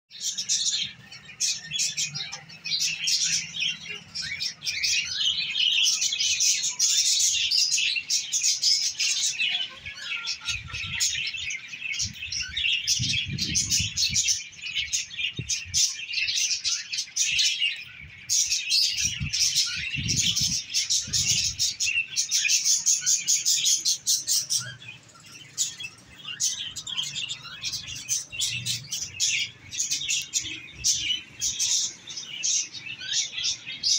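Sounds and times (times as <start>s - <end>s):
small birds chirping and chattering: 0.1s - 33.9s.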